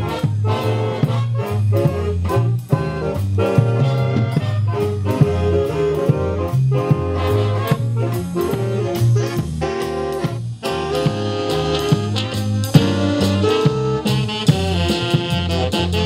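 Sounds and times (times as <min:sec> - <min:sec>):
music with steady beat: 0:00.0 - 0:16.0.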